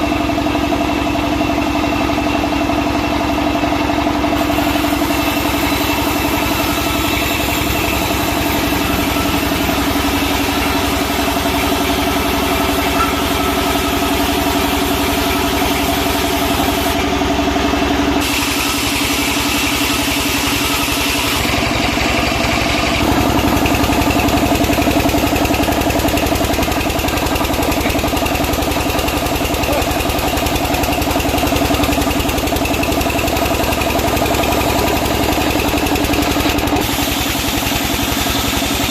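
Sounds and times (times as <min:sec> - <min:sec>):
sawmill motor drone: 0:00.0 - 0:38.9.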